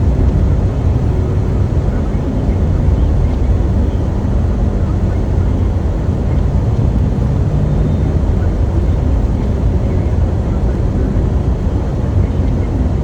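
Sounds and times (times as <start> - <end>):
loud low rumble: 0.0 - 13.0.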